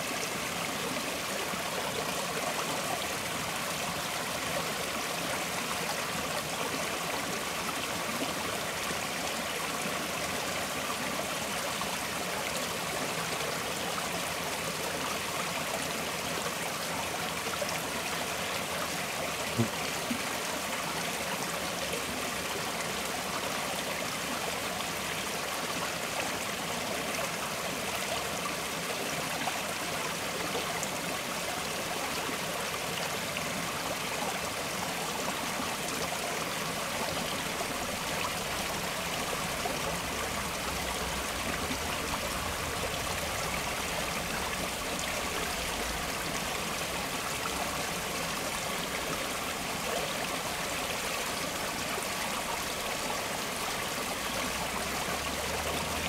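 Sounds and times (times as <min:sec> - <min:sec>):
stream flowing and trickling: 0:00.0 - 0:56.0.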